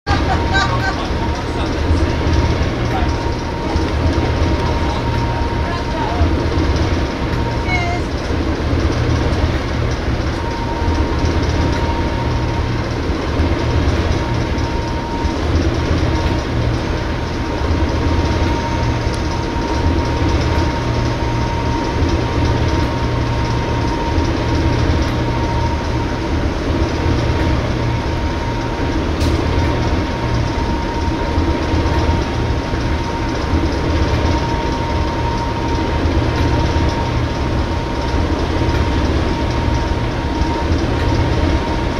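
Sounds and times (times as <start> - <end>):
diesel locomotive engine rumble: 0.0 - 41.9.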